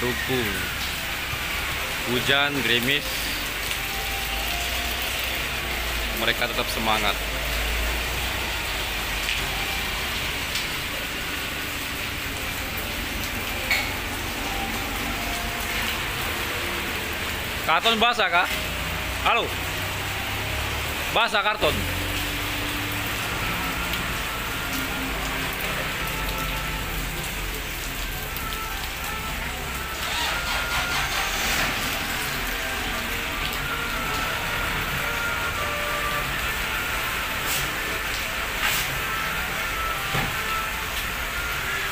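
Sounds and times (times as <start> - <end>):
rain on ground and metal: 0.0 - 41.9.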